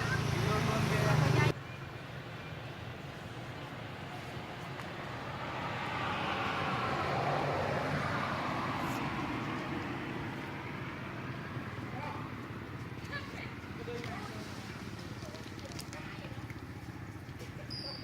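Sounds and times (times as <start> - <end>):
vehicle passing by: 0.0 - 1.6, 2.7 - 17.5.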